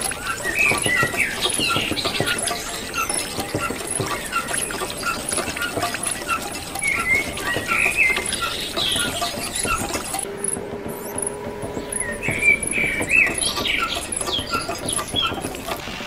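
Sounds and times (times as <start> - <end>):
small birds chirping: 0.0 - 16.0
steady pattering: 0.0 - 16.0.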